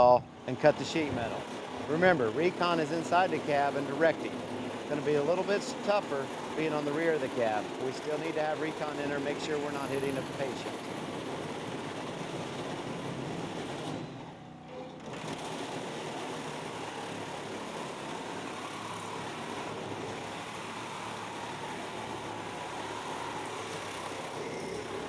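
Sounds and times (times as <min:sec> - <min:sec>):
reciprocating saw cutting sheet metal: 0:00.0 - 0:14.3, 0:15.0 - 0:25.0.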